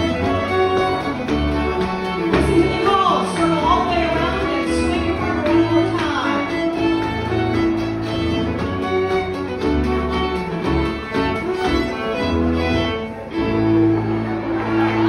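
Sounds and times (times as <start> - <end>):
dance band playing a tune: 0.0 - 15.0
fiddle melody: 0.0 - 15.0.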